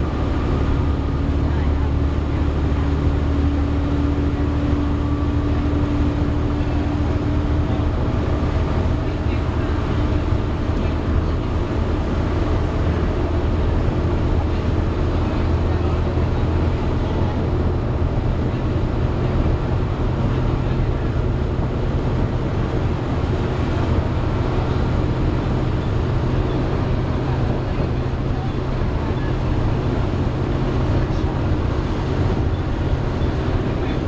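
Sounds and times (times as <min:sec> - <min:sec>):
bus engine drone: 0:00.0 - 0:34.0
engine cooling fan: 0:00.0 - 0:34.0.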